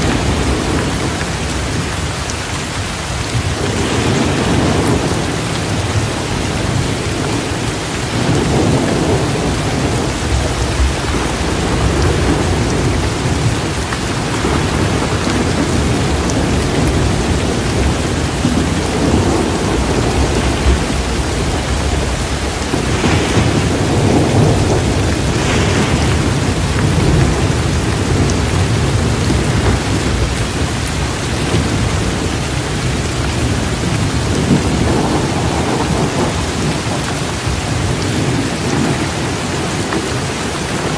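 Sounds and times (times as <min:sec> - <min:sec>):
low thunder rumbling: 0:00.0 - 0:40.9
steady rain: 0:00.0 - 0:40.9.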